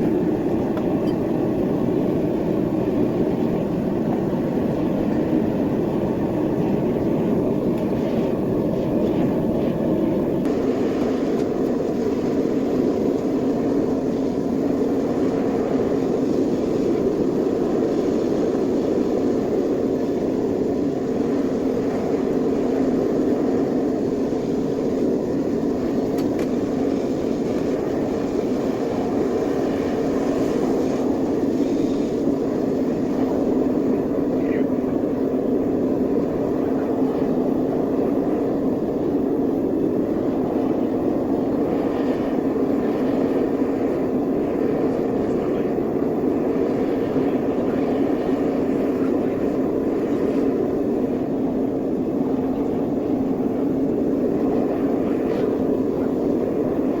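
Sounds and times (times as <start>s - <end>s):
gas burner flame rushing: 0.0s - 57.0s.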